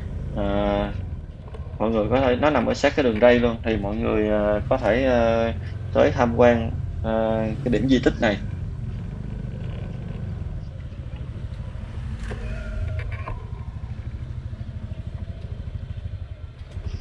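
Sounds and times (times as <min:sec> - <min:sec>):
motorbike engine rumble: 0:00.0 - 0:17.0.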